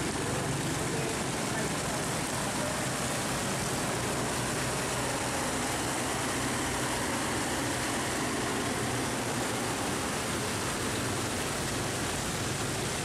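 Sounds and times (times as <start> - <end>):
heavy rain falling: 0.0 - 13.0
truck engine running low: 0.0 - 13.0.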